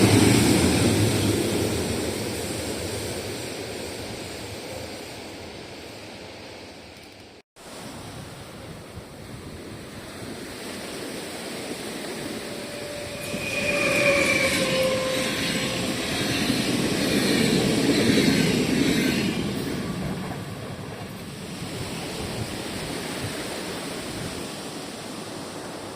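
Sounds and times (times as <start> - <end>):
train passing: 0.0 - 7.4, 8.5 - 25.9.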